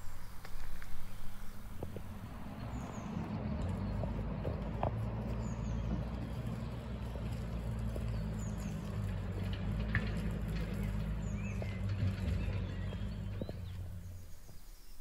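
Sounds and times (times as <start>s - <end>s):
bird chirping: 0.0s - 15.0s
low engine hum: 0.0s - 15.0s.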